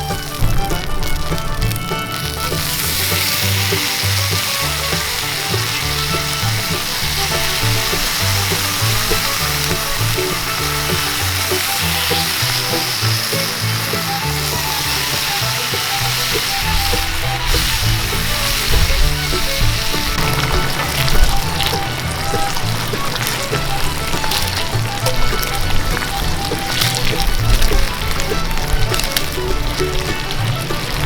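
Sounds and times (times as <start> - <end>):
bluegrass music: 0.0 - 31.0
patties sizzling over fire: 0.0 - 31.0.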